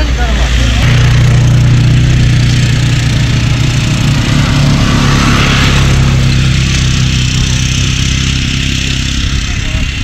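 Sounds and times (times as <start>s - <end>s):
quad bike engine passing: 0.0s - 10.0s.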